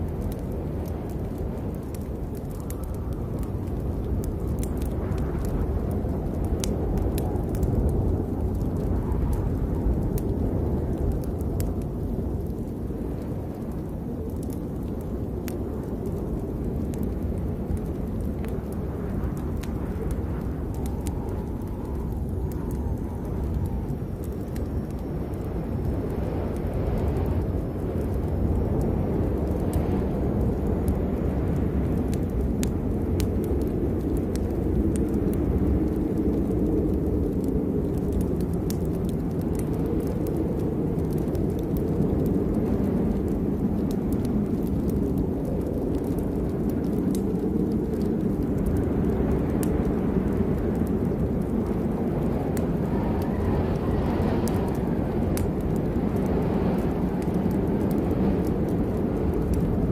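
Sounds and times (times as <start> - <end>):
rain: 0.0 - 59.9
thunder rumbling: 0.0 - 59.9.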